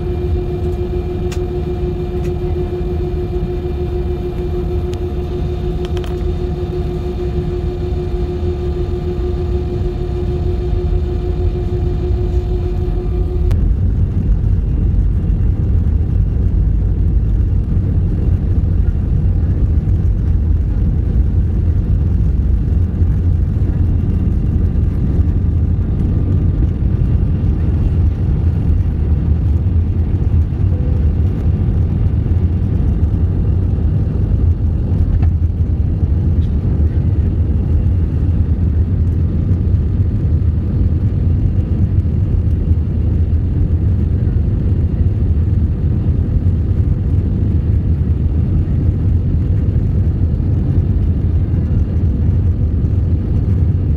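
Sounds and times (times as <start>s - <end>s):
faint steady whine: 0.0s - 53.9s
jet engines rumbling: 0.0s - 53.9s.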